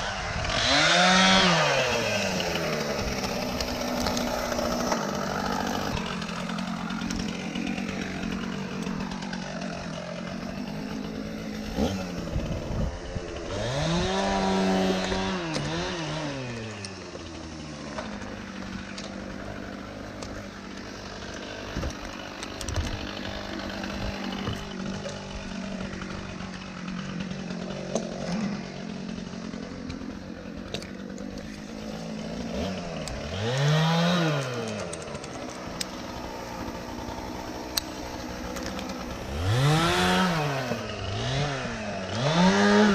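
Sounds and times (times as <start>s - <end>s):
chainsaw running and revving: 0.0s - 42.9s.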